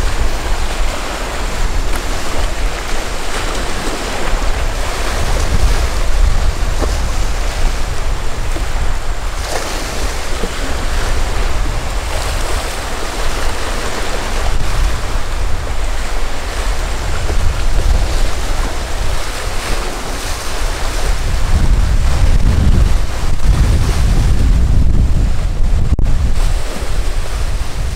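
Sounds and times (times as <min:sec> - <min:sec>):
waves and surf: 0:00.0 - 0:27.9
wind buffeting microphone: 0:00.0 - 0:27.9.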